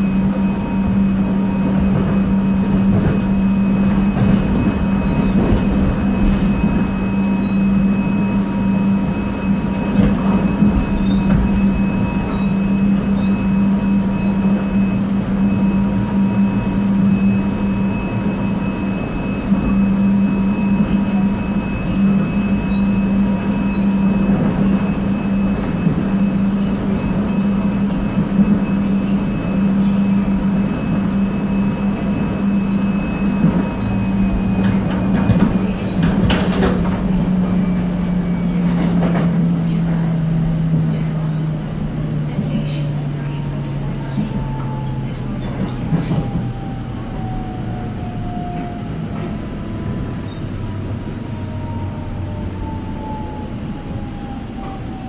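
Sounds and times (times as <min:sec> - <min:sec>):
train low hum: 0:00.0 - 0:55.0.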